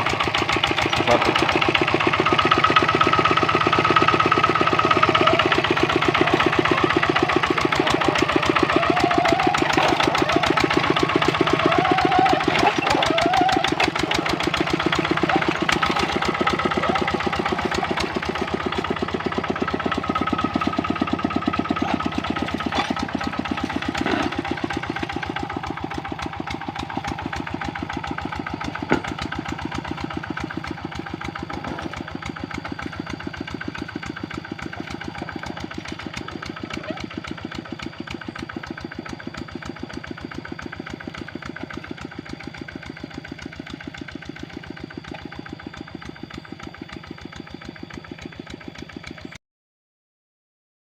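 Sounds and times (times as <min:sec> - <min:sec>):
diesel engine chugging: 0:00.0 - 0:49.4.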